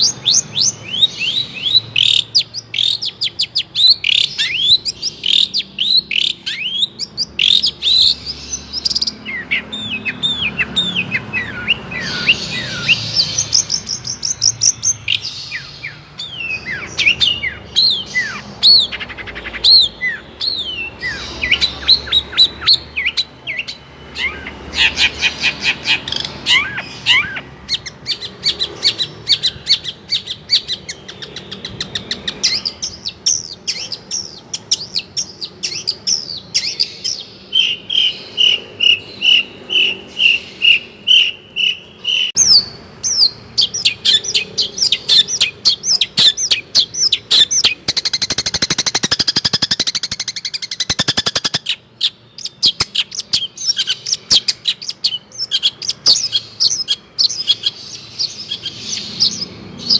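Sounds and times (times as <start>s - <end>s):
shrike singing: 0.0s - 59.9s.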